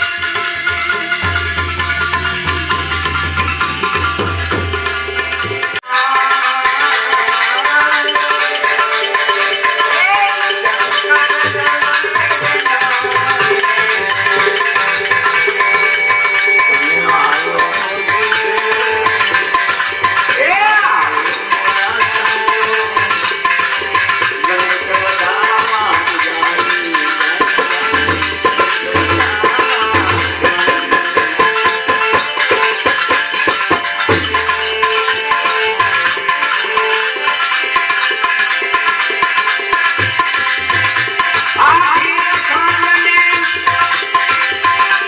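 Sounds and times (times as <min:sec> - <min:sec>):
hand drums: 0:00.0 - 0:45.0
jingling hand percussion: 0:00.0 - 0:45.0
sustained melodic accompaniment: 0:00.0 - 0:45.0.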